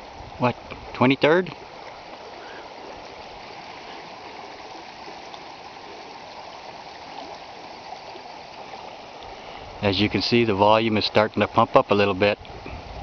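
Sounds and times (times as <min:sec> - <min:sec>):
floodwater rushing over gravel: 0:00.0 - 0:13.0.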